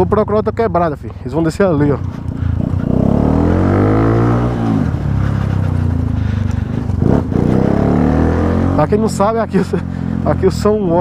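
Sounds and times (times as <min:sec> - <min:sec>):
motorcycle engine revving: 0:01.5 - 0:11.0.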